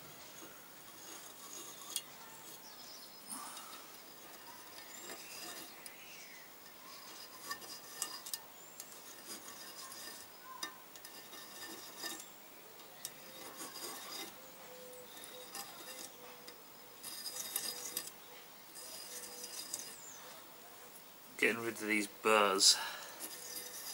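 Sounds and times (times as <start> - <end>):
hand tool scraping metal: 0.0 - 20.5, 22.6 - 23.9.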